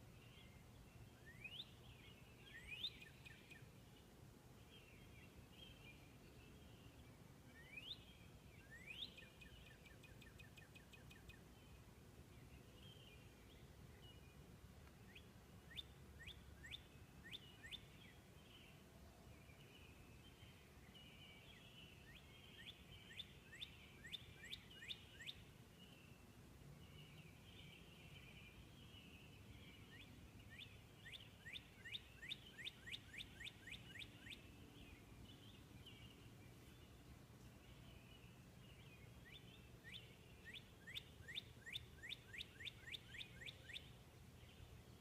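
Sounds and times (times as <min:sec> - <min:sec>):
faint twittering of birds: 0:00.0 - 0:45.0.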